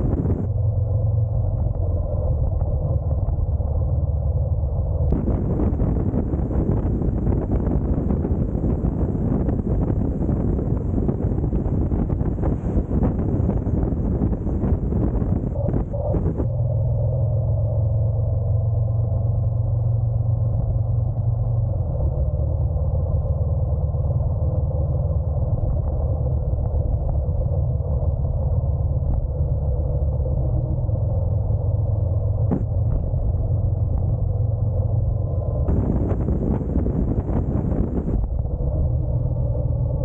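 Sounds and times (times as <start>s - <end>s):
motorcycle engine rumble: 0.0s - 40.0s
road noise: 0.0s - 40.0s.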